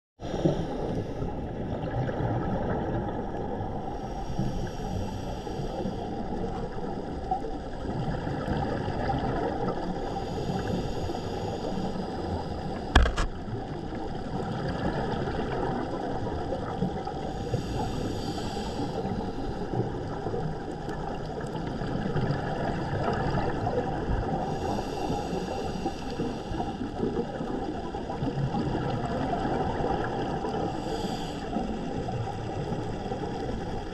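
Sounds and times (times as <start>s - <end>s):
muffled underwater rush: 0.2s - 33.9s
scuba bubbles gurgling: 0.2s - 33.9s.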